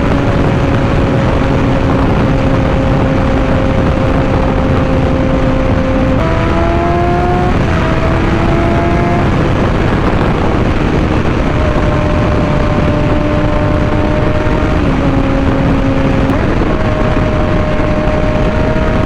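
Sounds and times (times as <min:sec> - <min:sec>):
heavy wind rush: 0:00.0 - 0:19.0
motorcycle engine revving: 0:00.0 - 0:19.0.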